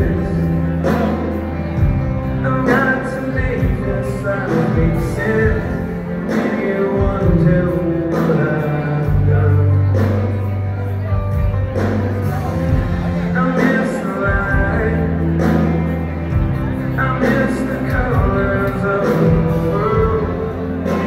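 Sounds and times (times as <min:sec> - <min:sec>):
man singing lead vocals: 0:00.0 - 0:10.6, 0:12.6 - 0:21.0
live rock band playing: 0:00.0 - 0:21.0.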